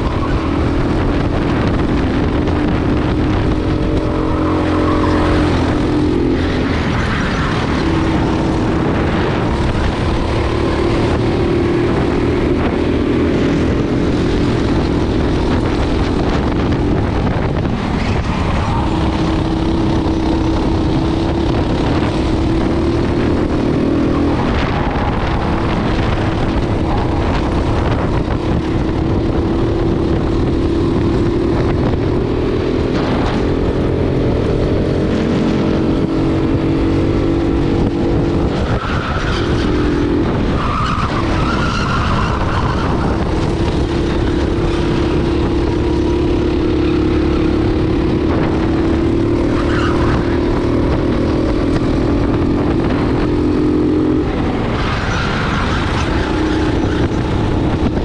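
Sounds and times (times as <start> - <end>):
racing kart engine at speed: 0.0 - 58.0.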